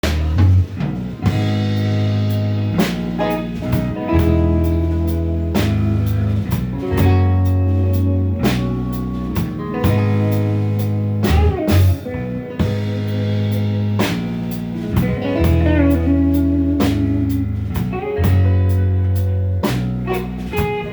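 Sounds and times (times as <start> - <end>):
instrumental blues band music: 0.0 - 20.9.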